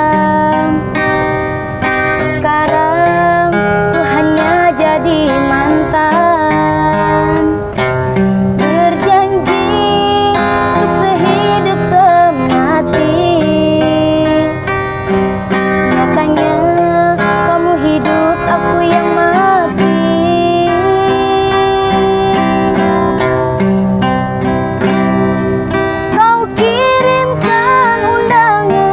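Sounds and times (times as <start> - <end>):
woman singing pop song: 0.0 - 7.7, 8.6 - 23.6, 26.1 - 28.9
acoustic guitar chords: 0.0 - 28.9.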